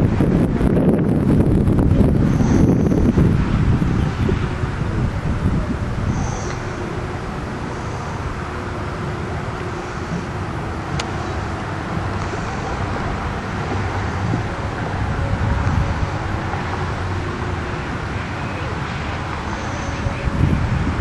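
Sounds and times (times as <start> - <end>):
low engine rumble: 0.0 - 21.0
wind buffeting microphone: 0.0 - 21.0.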